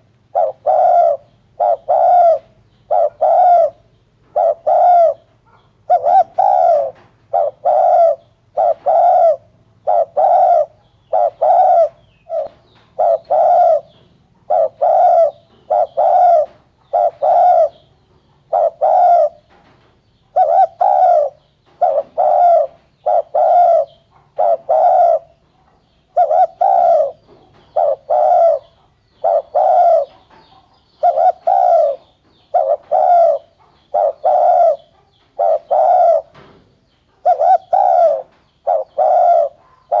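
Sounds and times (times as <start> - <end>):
dove cooing: 0.0 - 19.7, 20.3 - 40.0.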